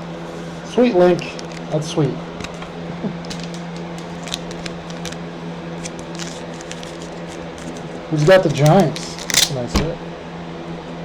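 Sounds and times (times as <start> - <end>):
trading cards being handled: 0.2 - 10.0.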